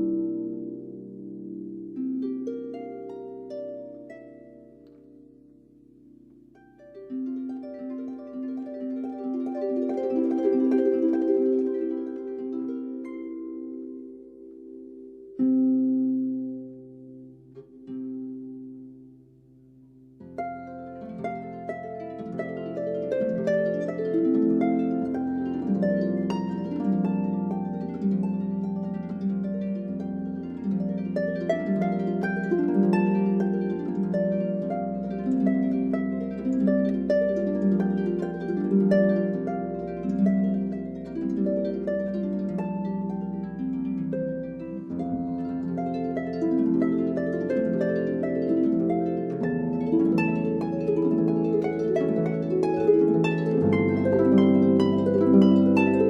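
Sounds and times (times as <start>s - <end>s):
plucked harp-like notes: 0.0s - 56.0s.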